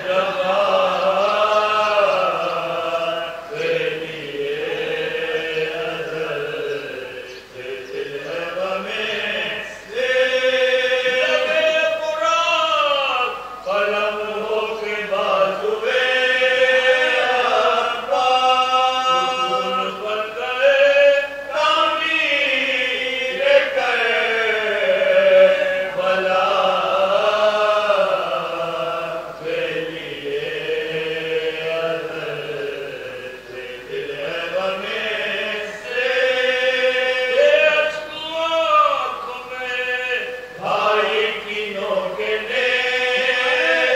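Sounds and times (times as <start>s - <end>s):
men chanting in unison: 0.0s - 43.9s.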